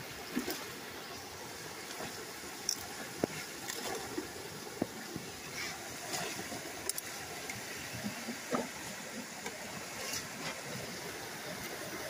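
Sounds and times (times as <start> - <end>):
water rushing through a culvert: 0.0 - 12.0.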